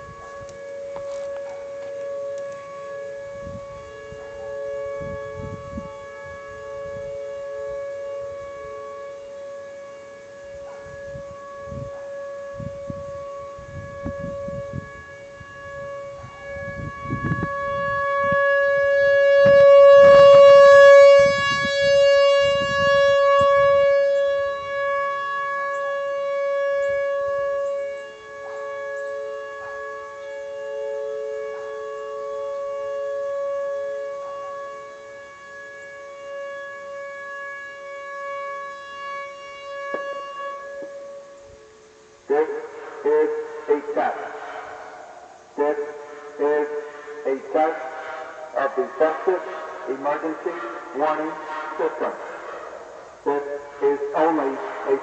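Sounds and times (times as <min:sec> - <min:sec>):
tornado warning siren: 0:00.0 - 0:55.0.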